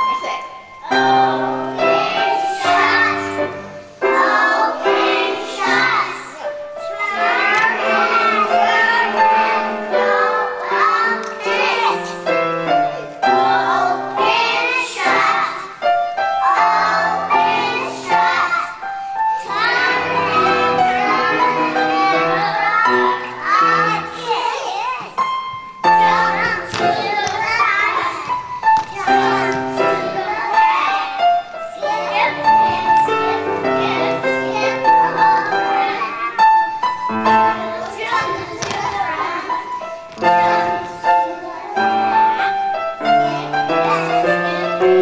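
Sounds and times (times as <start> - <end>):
piano accompaniment: 0.0 - 45.0
children singing: 0.8 - 45.0.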